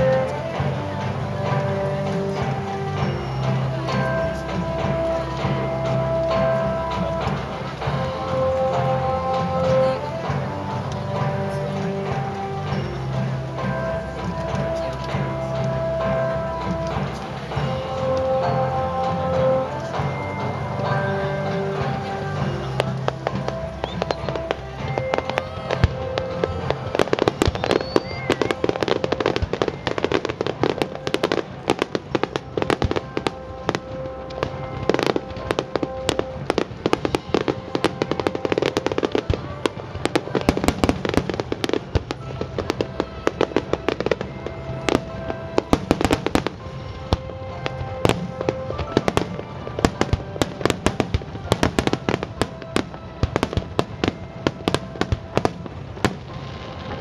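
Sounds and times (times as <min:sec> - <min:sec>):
fireworks bursts and crackling: 0:00.0 - 0:57.0
music playing: 0:00.0 - 0:57.0.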